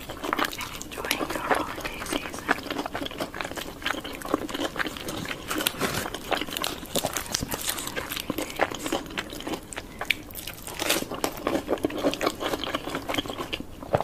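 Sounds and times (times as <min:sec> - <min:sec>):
crunchy chewing of fried chicken: 0:00.0 - 0:14.0.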